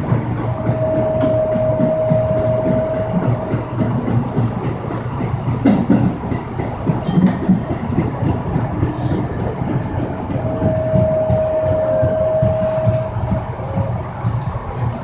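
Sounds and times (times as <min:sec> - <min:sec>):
rail-joint clacks: 0:00.0 - 0:15.0
wheels rumbling on rail: 0:00.0 - 0:15.0.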